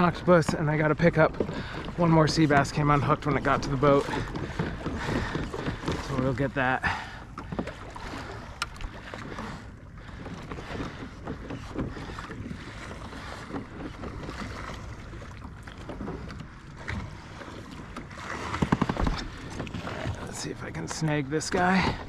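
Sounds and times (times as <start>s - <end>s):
gear knocking on boat: 0.0s - 22.0s
water sloshing against kayak hull: 0.0s - 22.0s.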